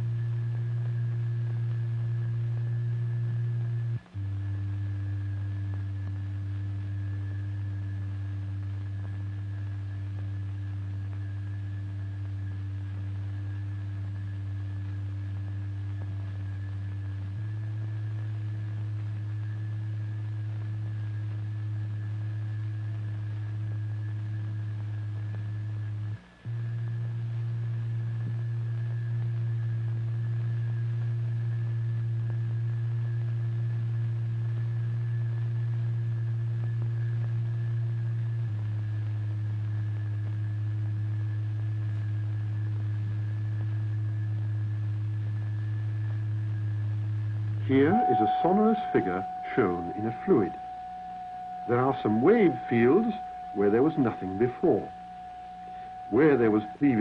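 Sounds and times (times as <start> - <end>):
faint high whine: 0.0 - 57.0
low electronic sine tone: 0.0 - 57.0.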